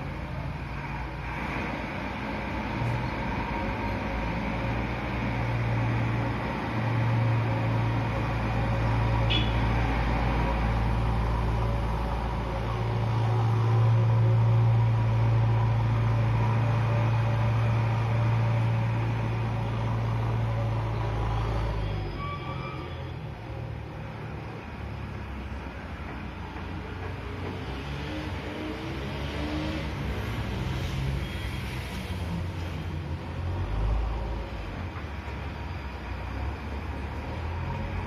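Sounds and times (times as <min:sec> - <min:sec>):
heavy diesel engines running: 0:00.0 - 0:38.0.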